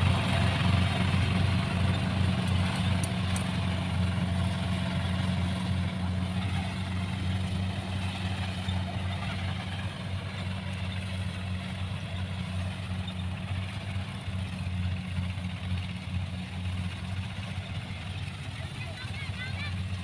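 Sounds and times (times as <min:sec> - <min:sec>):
harvester diesel engine droning: 0:00.0 - 0:20.0.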